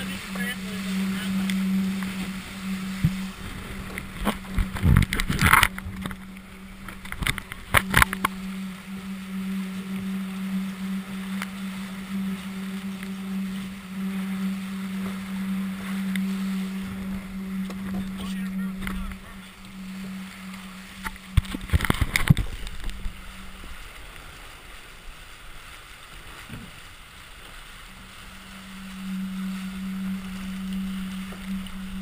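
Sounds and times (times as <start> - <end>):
steady low hum: 0.0 - 32.0
water rushing along hull: 0.0 - 32.0.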